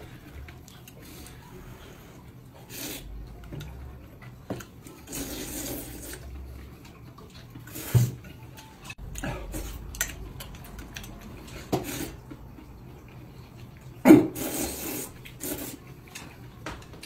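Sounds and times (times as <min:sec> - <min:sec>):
noodles being slurped: 0:00.0 - 0:03.4, 0:04.8 - 0:08.3, 0:09.1 - 0:16.1.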